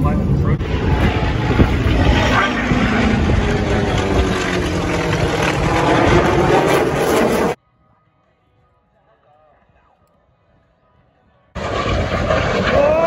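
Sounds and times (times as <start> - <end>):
jet aircraft roar: 0.0 - 8.3, 10.8 - 13.0.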